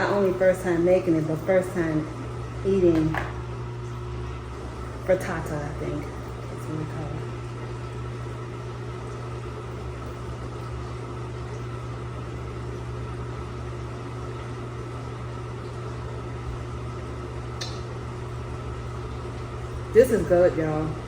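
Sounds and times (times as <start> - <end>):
appliance motor humming: 0.0 - 21.0.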